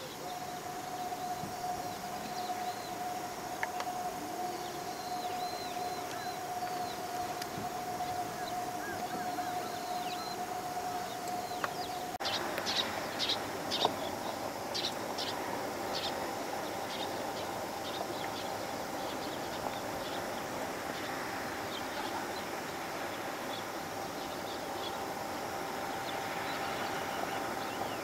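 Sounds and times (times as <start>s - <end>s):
steady hum: 0.0s - 28.0s
steady outdoor hiss: 0.0s - 28.0s.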